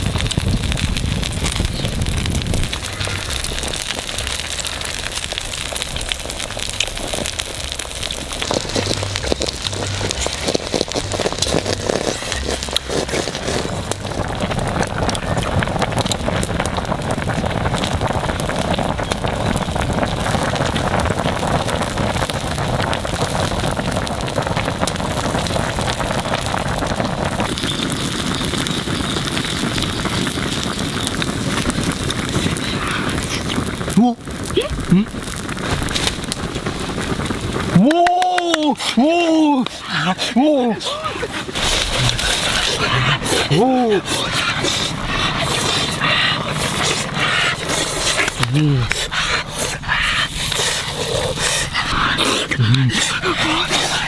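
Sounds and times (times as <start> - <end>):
broth boiling and bubbling: 0.0 - 54.0
wood fire crackling: 0.0 - 54.0.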